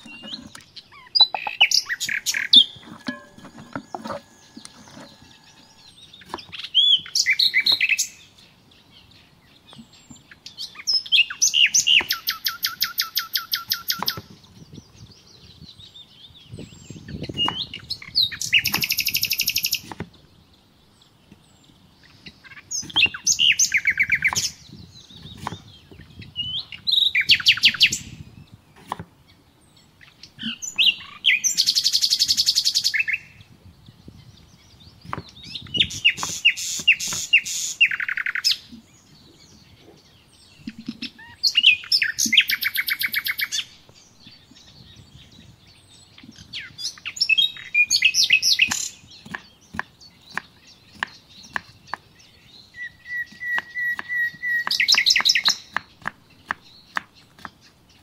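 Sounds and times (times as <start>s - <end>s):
songbird singing with fast trill: 0.0s - 58.0s.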